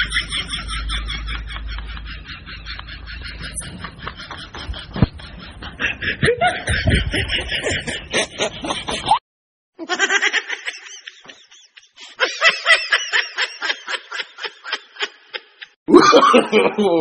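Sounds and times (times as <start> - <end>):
snickering laughter: 0.0 - 9.2, 9.8 - 17.0.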